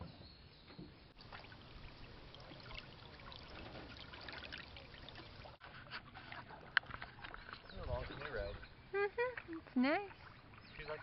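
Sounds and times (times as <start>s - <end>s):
water trickling and dripping: 1.1s - 11.0s.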